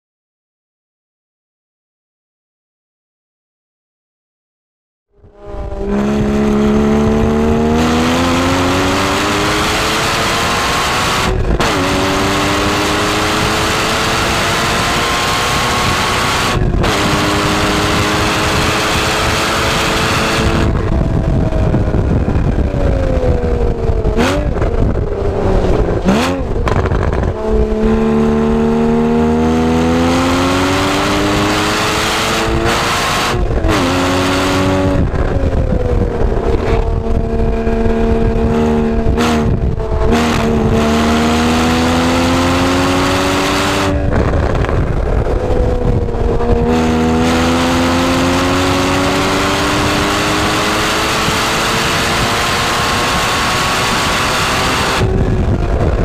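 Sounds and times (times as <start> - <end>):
car engine revving at speed: 5.1 - 56.0.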